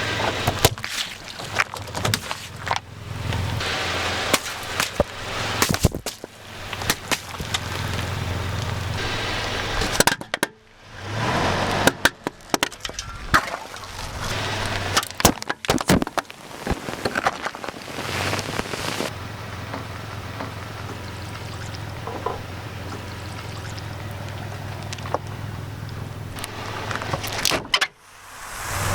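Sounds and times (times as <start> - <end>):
car engine running low: 0.0 - 15.3, 18.1 - 28.9.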